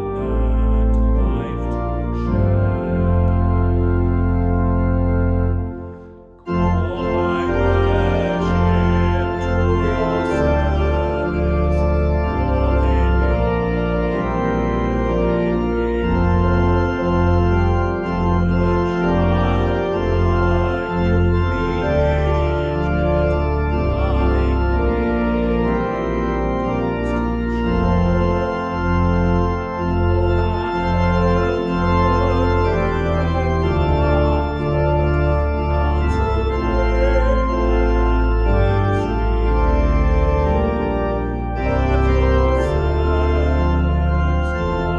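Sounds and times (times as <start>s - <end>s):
deep moving bass line: 0.0s - 44.9s
organ playing held chords: 0.0s - 44.9s.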